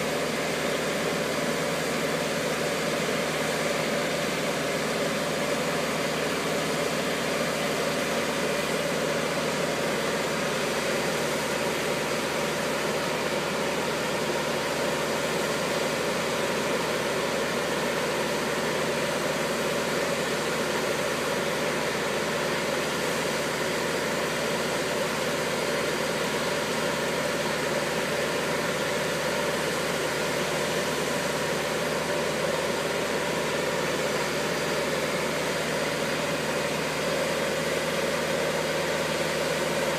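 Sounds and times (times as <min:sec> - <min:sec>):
engine droning steadily: 0:00.0 - 0:39.9.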